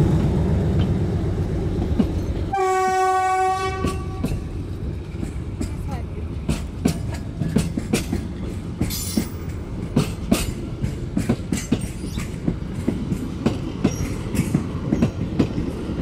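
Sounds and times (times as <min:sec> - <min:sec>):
train carriages rumbling: 0:00.0 - 0:16.0
wheels clacking over rail joints: 0:00.0 - 0:16.0.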